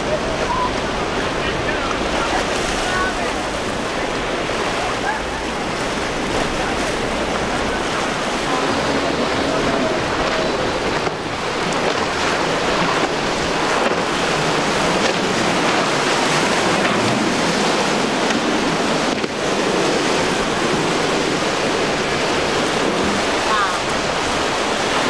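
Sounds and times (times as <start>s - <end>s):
waves breaking: 0.0s - 25.0s
wind buffeting microphone: 0.0s - 25.0s.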